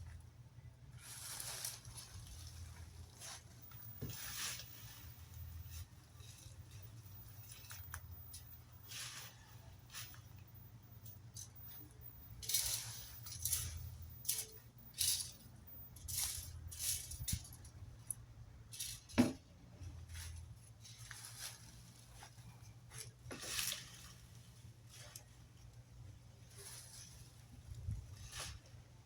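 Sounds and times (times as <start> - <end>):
rake scratching through dry leaves: 1.0 - 19.2, 19.9 - 29.0.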